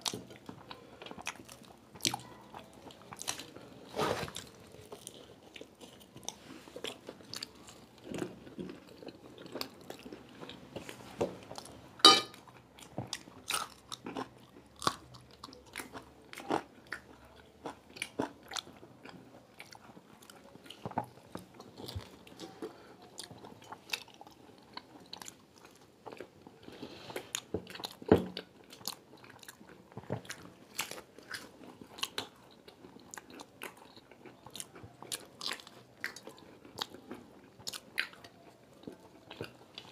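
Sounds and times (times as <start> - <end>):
people crunching and chewing food: 0.0 - 39.9.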